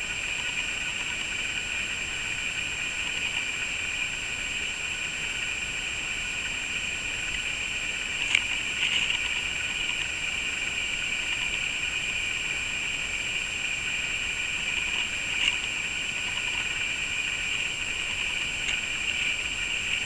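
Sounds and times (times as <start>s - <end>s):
background hiss: 0.0s - 20.0s
thin high whine: 0.0s - 20.0s.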